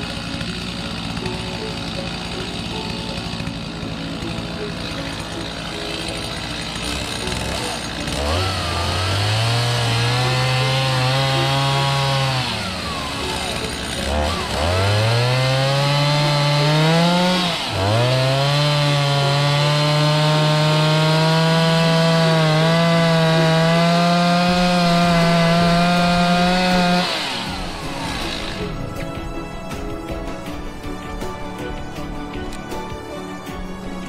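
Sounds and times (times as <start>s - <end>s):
chainsaw at high revs: 0.0s - 29.0s.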